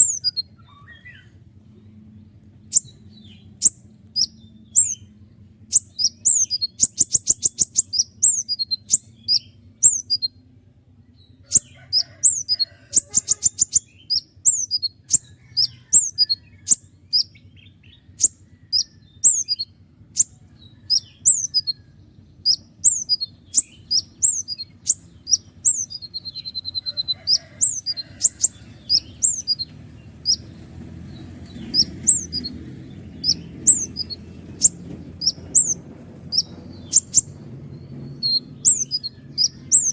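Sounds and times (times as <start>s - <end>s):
bird rattling trills: 0.0s - 0.4s, 5.7s - 10.3s, 11.5s - 17.4s, 18.2s - 21.8s, 22.4s - 39.9s
low steady hum: 0.0s - 39.9s.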